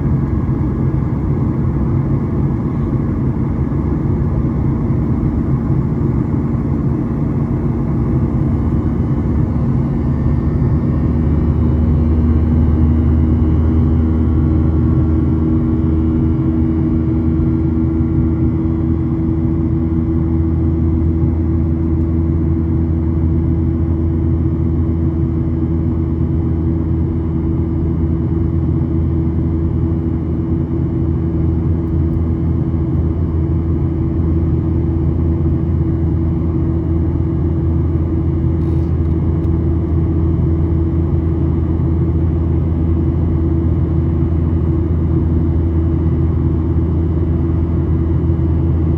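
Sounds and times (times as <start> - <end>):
jet engine cabin drone: 0.0 - 48.9.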